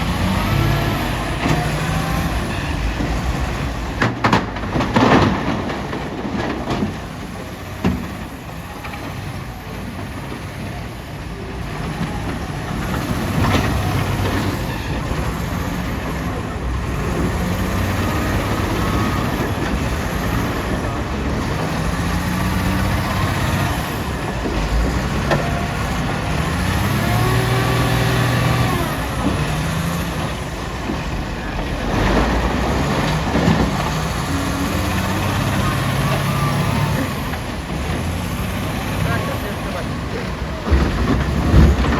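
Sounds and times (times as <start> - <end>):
diesel engine revving under load: 0.0 - 41.9
wheel loader loading rock: 0.0 - 41.9.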